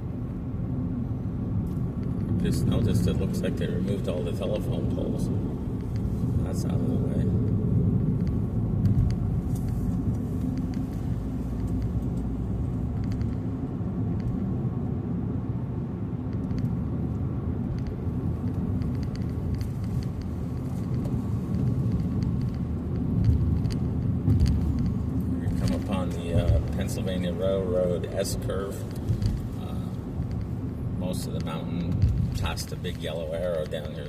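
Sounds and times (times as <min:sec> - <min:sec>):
car engine rumble: 0:00.0 - 0:34.0
road noise: 0:00.0 - 0:34.0.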